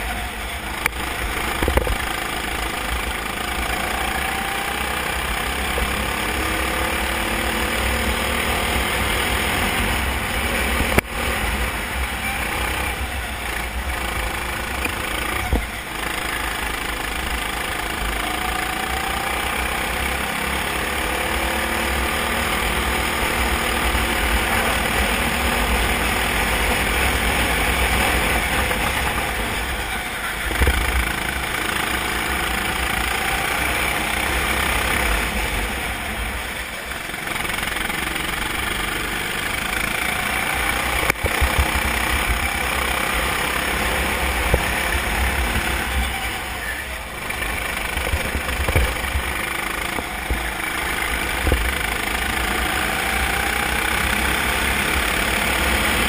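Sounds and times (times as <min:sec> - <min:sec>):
kart engine at speed: 0:00.0 - 0:56.0
other kart engines: 0:00.0 - 0:56.0.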